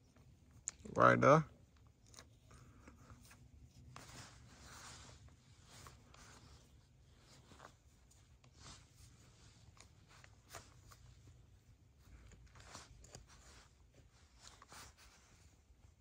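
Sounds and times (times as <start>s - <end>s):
faint scratchy rustles: 1.2s - 16.0s.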